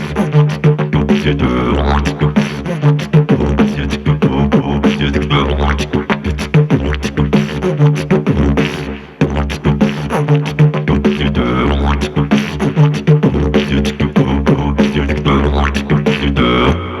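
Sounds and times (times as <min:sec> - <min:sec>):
beatbox hits and vocal sounds: 0:00.0 - 0:17.0
didgeridoo drone: 0:00.0 - 0:17.0.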